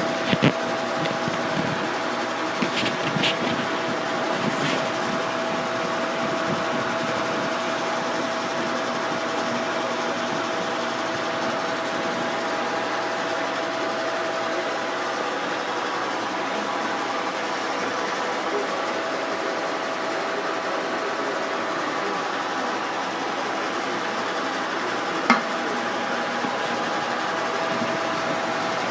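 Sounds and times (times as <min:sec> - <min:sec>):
milling machine drone: 0:00.0 - 0:28.9
thin steady whine: 0:00.0 - 0:28.9.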